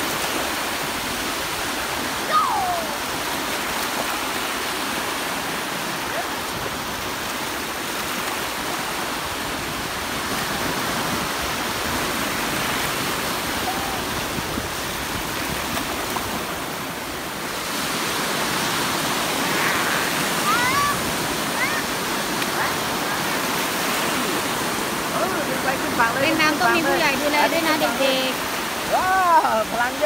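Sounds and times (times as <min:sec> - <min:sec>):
small waves breaking on sand: 0:00.0 - 0:30.0.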